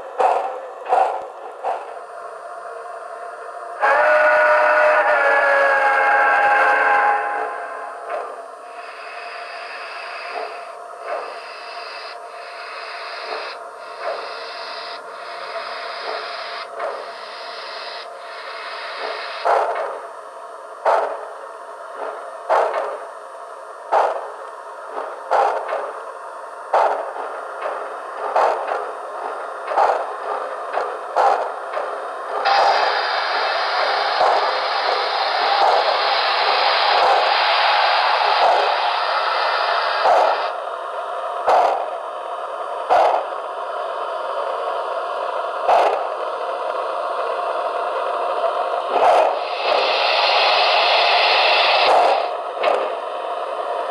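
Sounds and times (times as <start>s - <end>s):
model steam locomotive chuffing: 0.0s - 3.1s, 3.8s - 23.1s, 23.8s - 26.1s, 26.7s - 53.9s.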